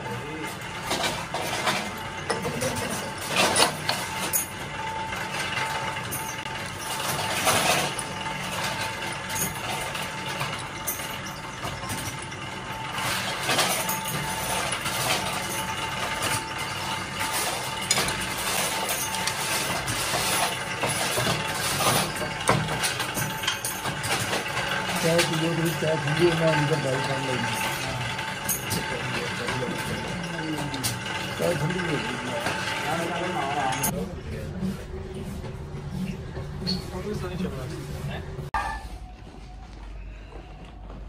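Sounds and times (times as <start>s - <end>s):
workshop machinery humming: 0.0s - 41.0s.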